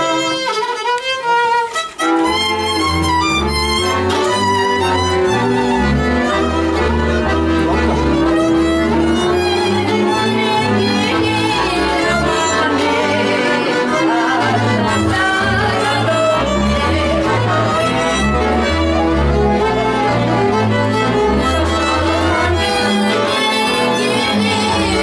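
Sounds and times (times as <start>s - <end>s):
bowed strings accompaniment: 0.0s - 25.0s
violin melody: 0.0s - 25.0s.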